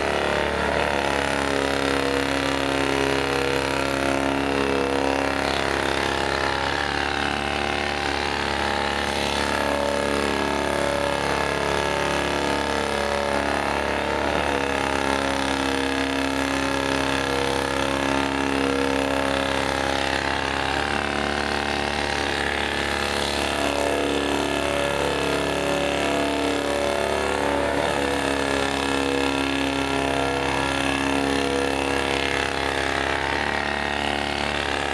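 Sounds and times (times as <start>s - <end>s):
motor-driven rotary brush humming: 0.0s - 34.9s.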